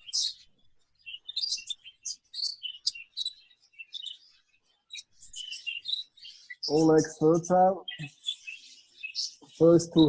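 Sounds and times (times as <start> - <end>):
budgerigars chirping: 0.0 - 10.0.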